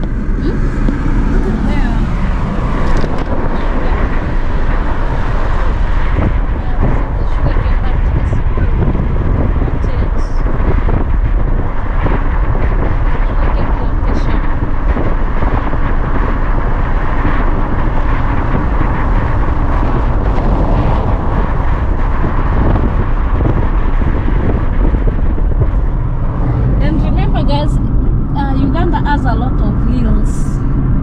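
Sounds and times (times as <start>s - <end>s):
car engine and tyre road noise: 0.0s - 31.0s.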